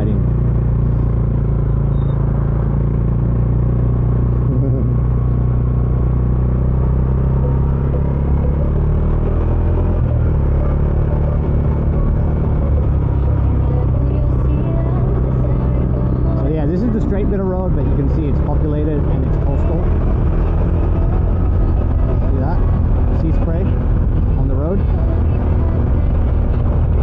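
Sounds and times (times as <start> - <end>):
motorcycle engine cruising: 0.0 - 27.0.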